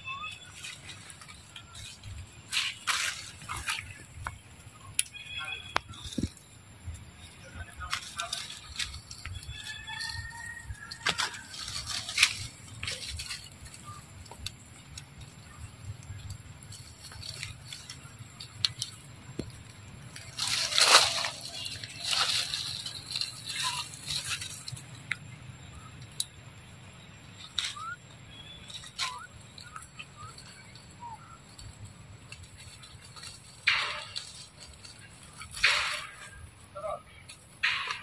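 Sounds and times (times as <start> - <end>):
leaves rustling against microphone: 0.0 - 38.0.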